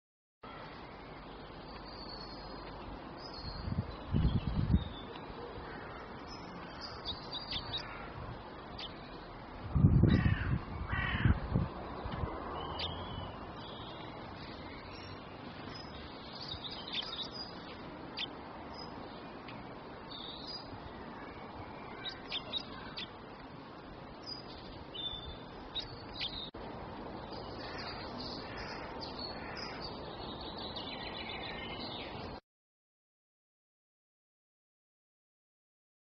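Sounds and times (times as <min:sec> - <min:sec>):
small birds chirping: 0:00.5 - 0:32.4
steady background hiss: 0:00.5 - 0:32.4.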